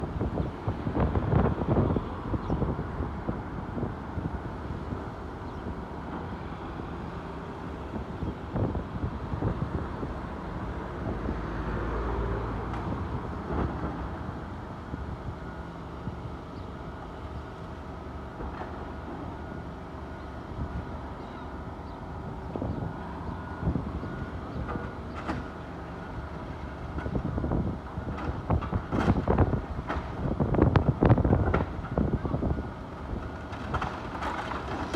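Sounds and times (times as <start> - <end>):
diesel engine running steadily: 0.0 - 34.9.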